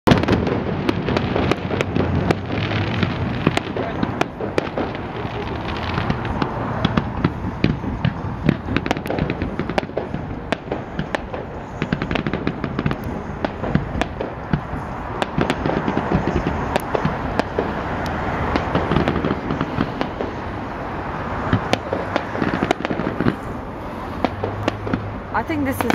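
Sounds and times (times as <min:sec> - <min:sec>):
continuous noisy rumble: 0:00.1 - 0:25.9
fireworks bangs and crackles: 0:00.1 - 0:25.9.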